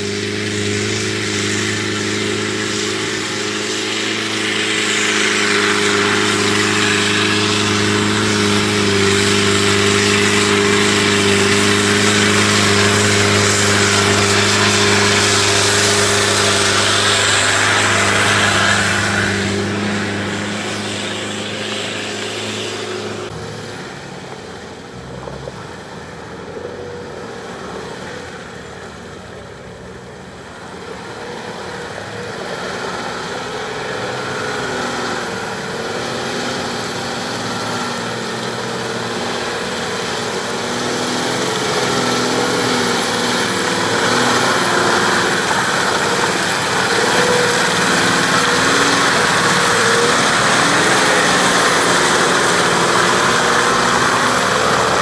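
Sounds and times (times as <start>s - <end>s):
engine at high revs: 0.0s - 55.0s
loud rushing noise: 0.0s - 55.0s.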